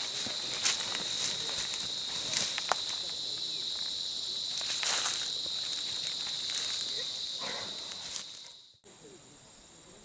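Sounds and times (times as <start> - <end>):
insect chorus droning: 0.0 - 10.0
quieter high insect drone: 0.0 - 10.0.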